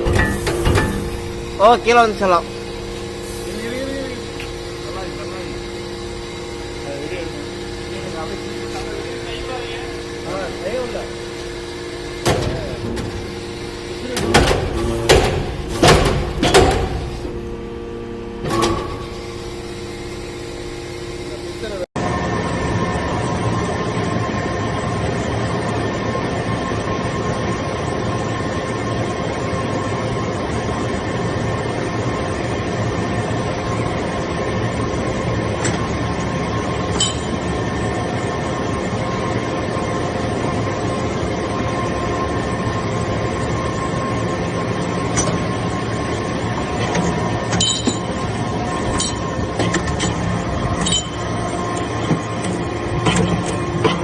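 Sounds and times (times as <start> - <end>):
industrial machine whine and hum: 0.0 - 54.0.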